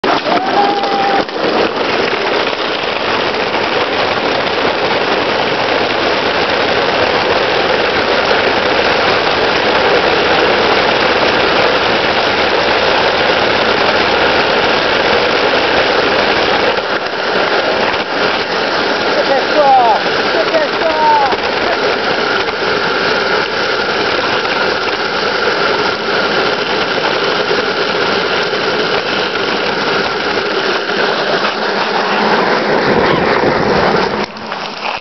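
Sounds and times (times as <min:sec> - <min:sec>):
plastic wheels rattling on cobblestones: 0:00.0 - 0:35.0.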